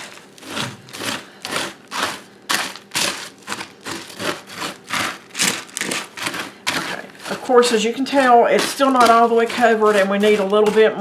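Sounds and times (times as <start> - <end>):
cereal stirred in a pan: 0.0 - 11.0.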